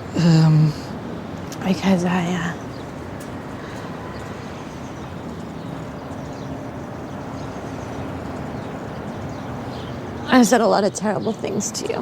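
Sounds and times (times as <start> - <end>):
distant traffic: 0.0 - 12.0.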